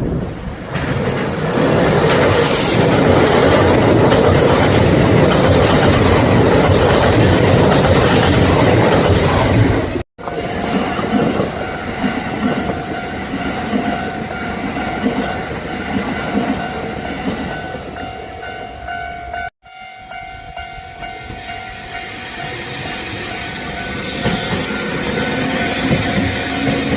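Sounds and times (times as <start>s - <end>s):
train wheels rumbling on rails: 0.0s - 18.6s, 20.4s - 26.9s
train pitched hum: 0.0s - 26.9s.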